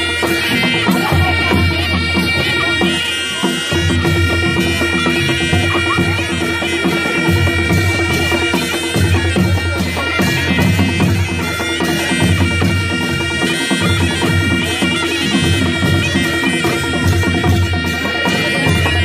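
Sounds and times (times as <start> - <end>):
drum beats: 0.0 - 19.0
shawms playing nasal melody: 0.0 - 19.0.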